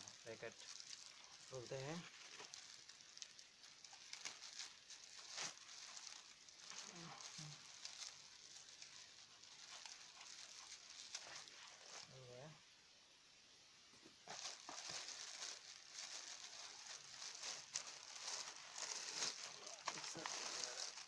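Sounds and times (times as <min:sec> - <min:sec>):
plastic wrap crinkling: 0:00.0 - 0:12.2, 0:14.1 - 0:21.0.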